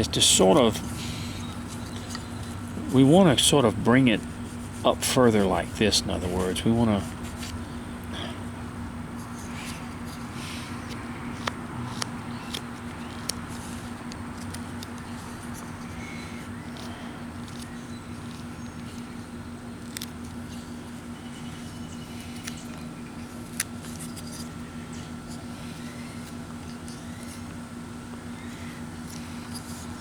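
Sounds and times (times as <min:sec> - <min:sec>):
low hum: 0:00.0 - 0:29.9.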